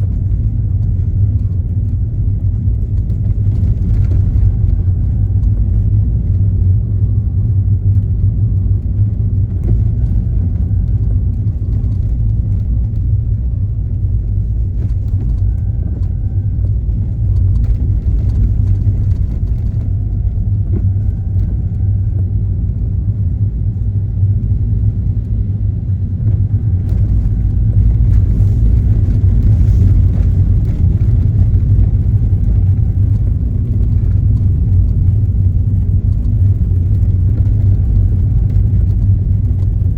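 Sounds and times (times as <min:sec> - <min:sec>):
car engine and tyre rumble: 0:00.0 - 0:39.9
faint whine: 0:00.0 - 0:39.9.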